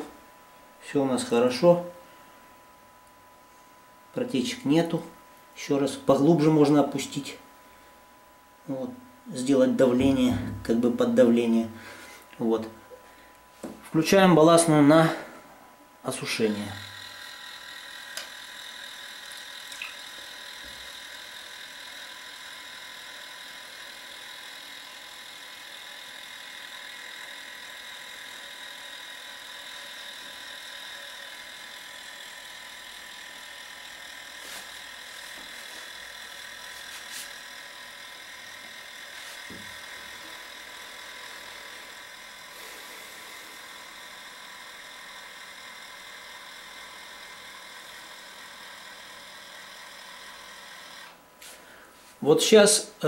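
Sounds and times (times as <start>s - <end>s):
small electric pump whining: 8.7s - 52.5s.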